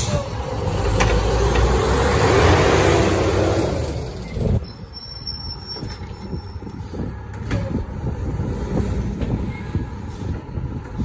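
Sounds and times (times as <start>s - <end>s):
garbage truck diesel engine rumble: 0.0s - 11.0s.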